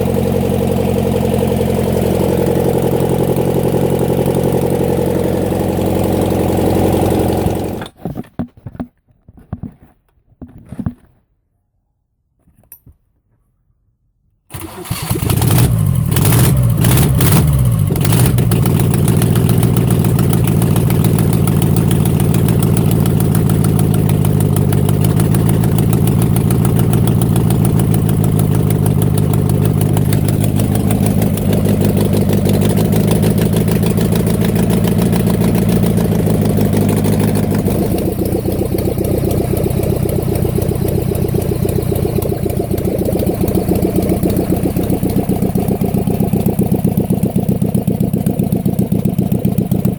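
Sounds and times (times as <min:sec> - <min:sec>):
air-cooled engine idling: 0:00.0 - 0:07.8, 0:14.5 - 0:49.9.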